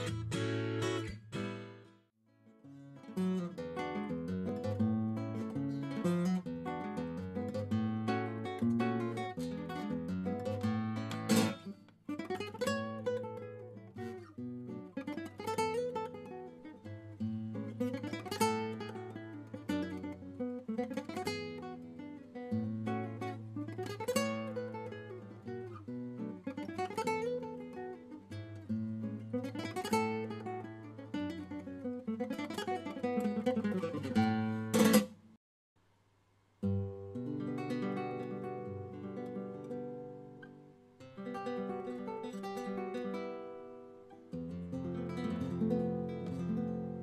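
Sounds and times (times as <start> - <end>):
acoustic guitar arpeggios: 0.0 - 35.2, 36.6 - 47.0.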